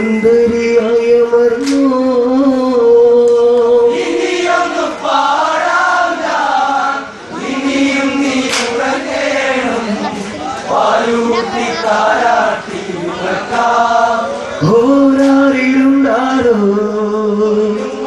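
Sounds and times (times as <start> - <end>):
men's group singing a chant: 0.0 - 18.0.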